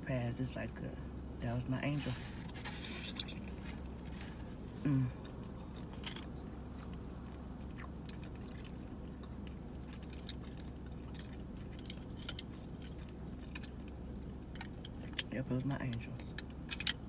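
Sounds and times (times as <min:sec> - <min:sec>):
steady low hum: 0:00.0 - 0:17.0
chewing and mouth sounds: 0:02.1 - 0:17.0.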